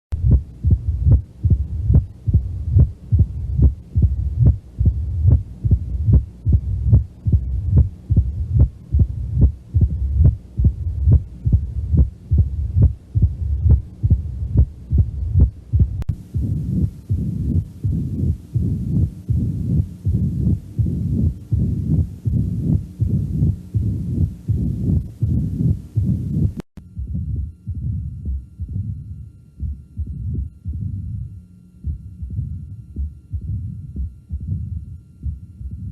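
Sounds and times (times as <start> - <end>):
heartbeat: 0.1 - 35.9
low rumbling heart murmur: 0.1 - 35.9.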